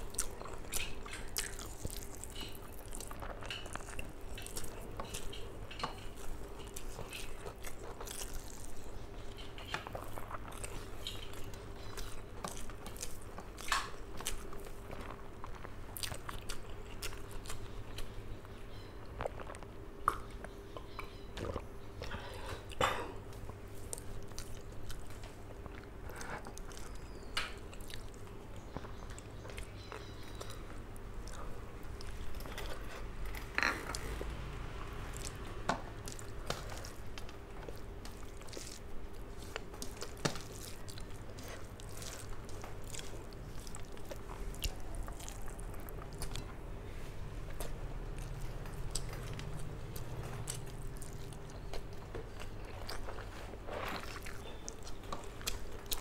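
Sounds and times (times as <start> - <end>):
person chewing with wet mouth sounds: 0.0 - 56.0.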